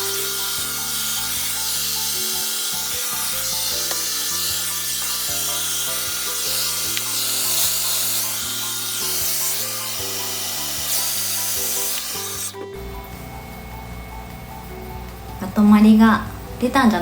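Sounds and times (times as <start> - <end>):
hair dryer blowing: 0.0 - 15.5.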